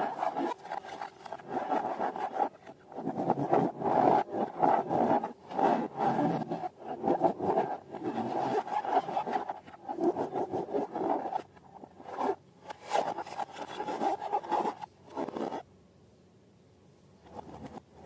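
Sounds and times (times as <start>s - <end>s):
rubbing and scraping of balloons: 0.0s - 15.6s.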